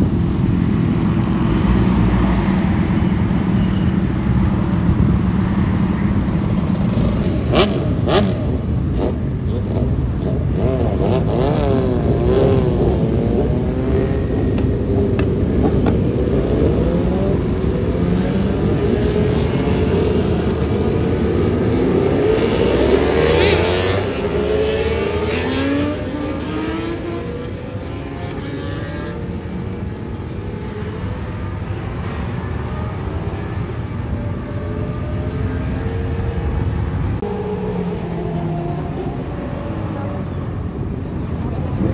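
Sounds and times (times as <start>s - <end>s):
highway traffic: 0.0s - 41.9s
motorbikes revving and passing: 0.0s - 41.9s.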